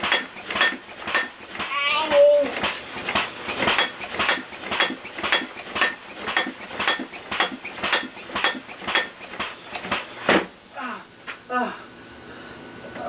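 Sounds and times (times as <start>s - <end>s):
mechanism knocking rhythmically: 0.0s - 10.7s.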